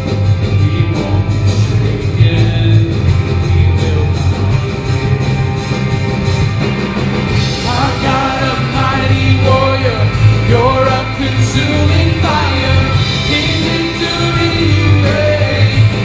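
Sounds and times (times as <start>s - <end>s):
person singing: 0.0s - 4.8s, 7.5s - 16.0s
electric guitar: 0.0s - 16.0s
live band playing rock: 0.0s - 16.0s.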